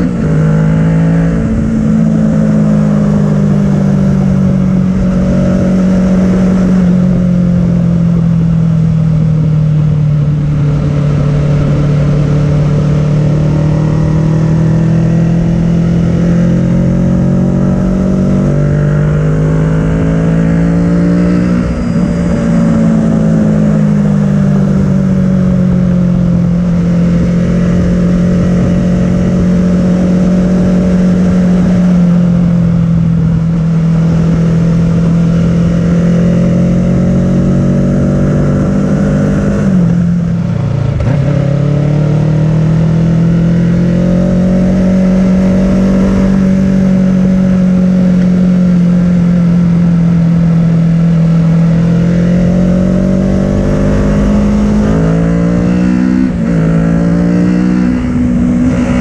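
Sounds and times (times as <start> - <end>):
motorcycle engine cruising: 0.0 - 59.0
wind rumble on microphone: 0.0 - 59.0.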